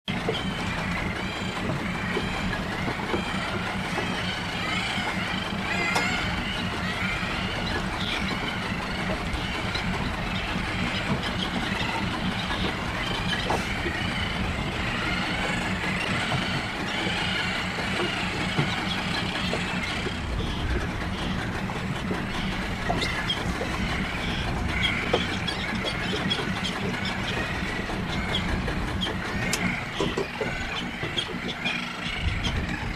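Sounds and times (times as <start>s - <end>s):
low engine hum: 0.0s - 32.9s
terns calling: 0.1s - 32.9s.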